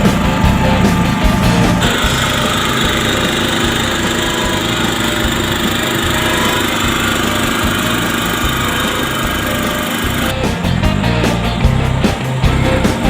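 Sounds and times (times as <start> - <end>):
mini excavator engine running: 0.0 - 13.0.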